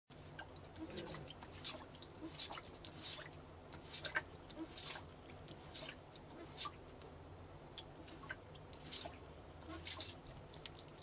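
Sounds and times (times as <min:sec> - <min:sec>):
cat lapping water: 0:00.2 - 0:11.0.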